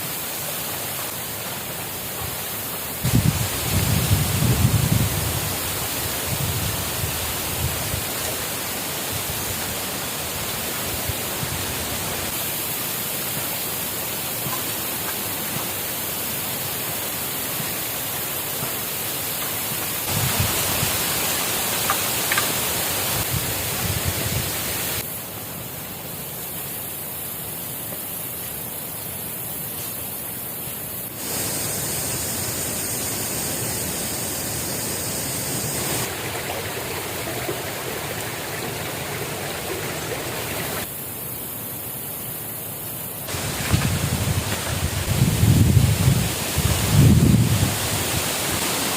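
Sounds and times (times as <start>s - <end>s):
water rushing: 0.0s - 25.1s, 31.1s - 40.9s, 43.2s - 48.9s.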